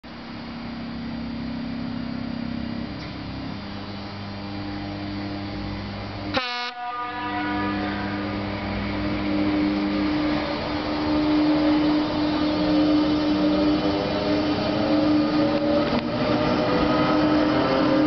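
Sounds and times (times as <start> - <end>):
train passing with loud hum: 0.0 - 18.0
locomotive motor whine: 0.1 - 18.0.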